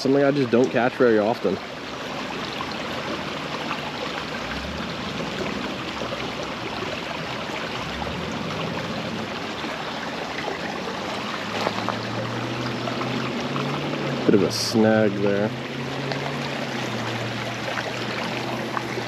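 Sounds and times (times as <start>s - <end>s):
creek water rushing over rocks: 0.0s - 19.0s.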